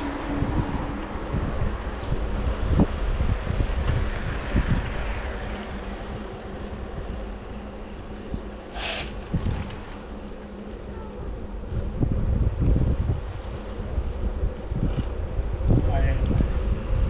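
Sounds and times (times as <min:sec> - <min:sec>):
bike road noise: 0:00.0 - 0:17.0
wind rumble on microphone: 0:00.0 - 0:17.0.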